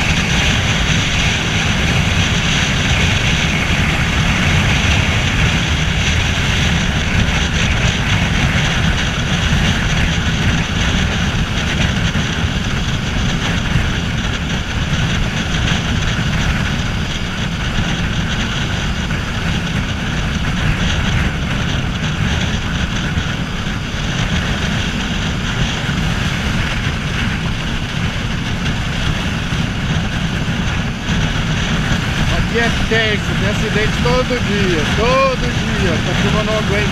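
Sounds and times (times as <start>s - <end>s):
motorcycle engine running: 0.0s - 36.9s
wind rush on microphone: 0.0s - 36.9s.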